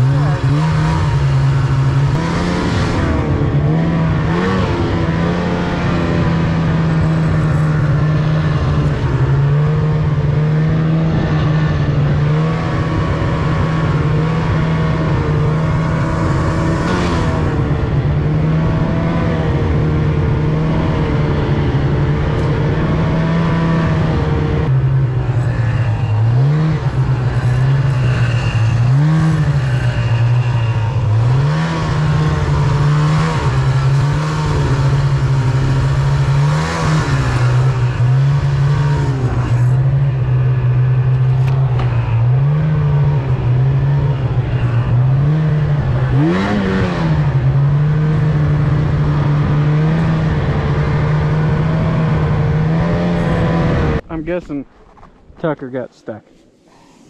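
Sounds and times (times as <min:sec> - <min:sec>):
snowmobile engine revving: 0:00.0 - 0:54.6.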